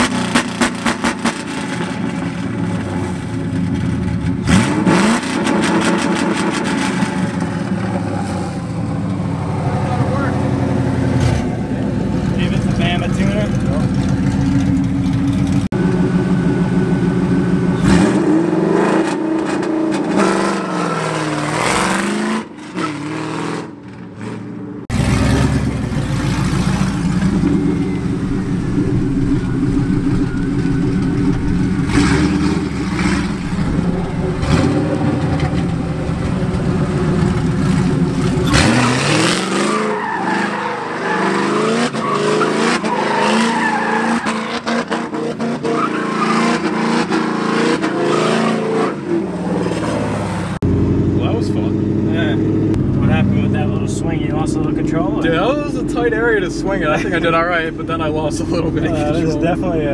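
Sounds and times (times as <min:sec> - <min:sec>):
car engine revving loudly: 0:04.4 - 0:11.6, 0:15.4 - 0:56.2.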